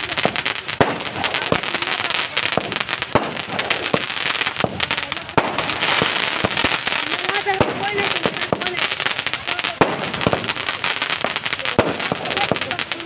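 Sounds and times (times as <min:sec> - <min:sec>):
firecracker bangs: 0:00.0 - 0:13.0
firecrackers crackling: 0:00.0 - 0:13.0.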